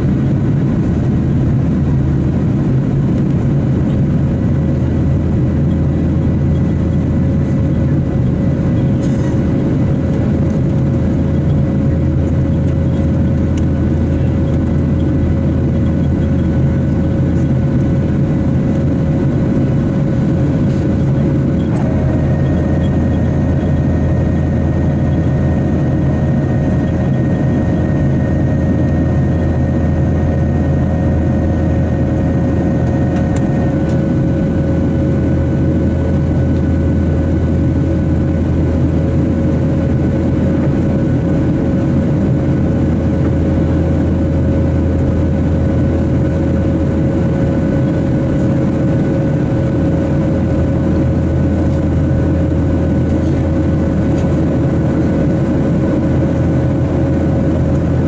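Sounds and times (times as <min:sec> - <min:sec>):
constant hum: 0:00.0 - 0:58.0
high steady whine: 0:00.0 - 0:58.0
jet engine cabin rumble: 0:00.0 - 0:58.0.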